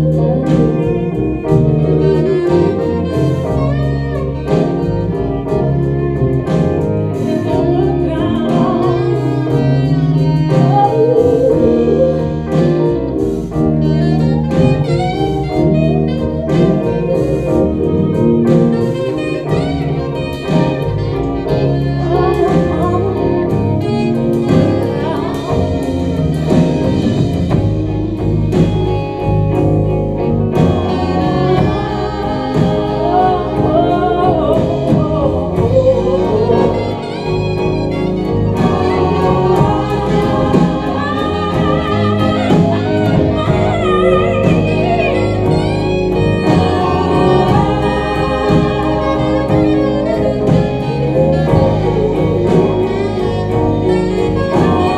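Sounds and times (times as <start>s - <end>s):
jazz band accompaniment: 0.0s - 54.9s
soprano saxophone solo: 0.0s - 54.9s.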